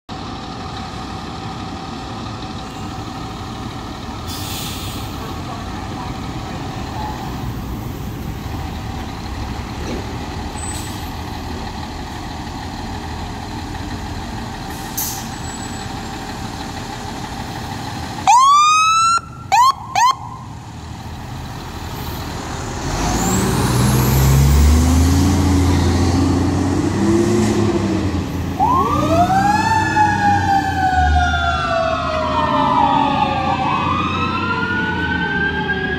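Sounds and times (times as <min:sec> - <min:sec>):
diesel engine idling and revving: 0:00.1 - 0:35.9.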